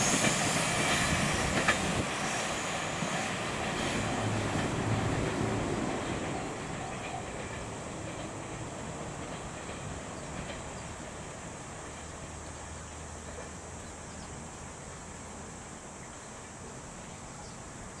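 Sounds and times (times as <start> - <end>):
distant freight train rumble: 0.0 - 18.0
outdoor background hum and hiss: 0.0 - 18.0.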